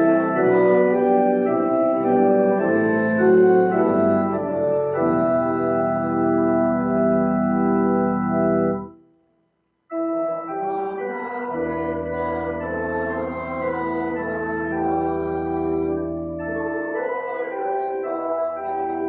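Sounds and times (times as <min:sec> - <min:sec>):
organ music: 0:00.0 - 0:09.0, 0:09.9 - 0:19.0.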